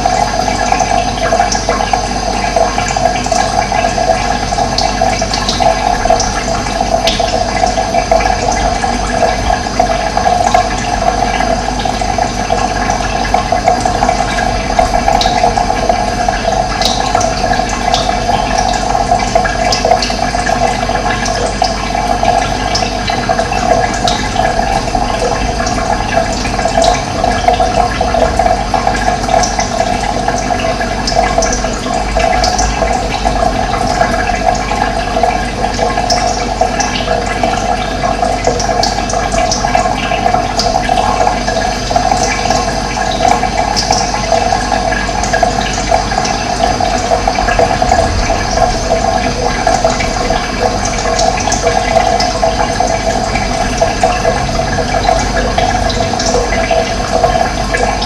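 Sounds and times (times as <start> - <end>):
running water flowing: 0.0 - 58.0.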